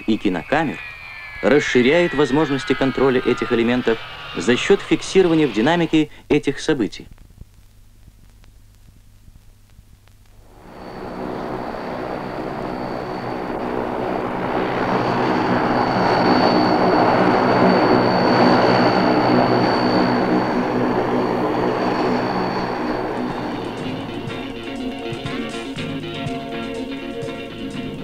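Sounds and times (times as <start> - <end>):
turboprop engines at high power: 0.0 - 6.2, 10.4 - 28.0
high engine whine: 0.0 - 6.5, 10.3 - 28.0.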